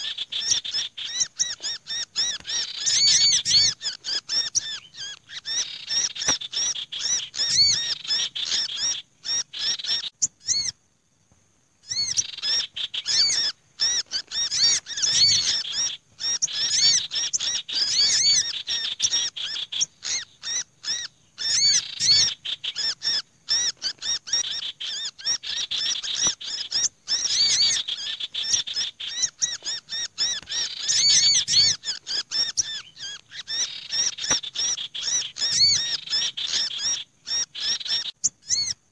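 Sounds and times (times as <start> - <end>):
songbird alarm calls: 0.0 - 10.9, 11.8 - 38.9.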